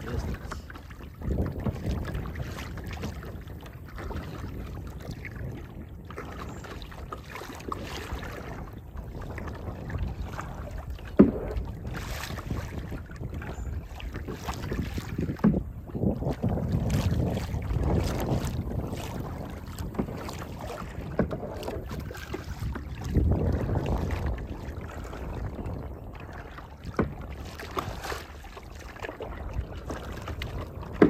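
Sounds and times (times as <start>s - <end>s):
paddle strokes splashing: 0.0s - 31.0s
wind buffeting microphone: 0.0s - 31.0s.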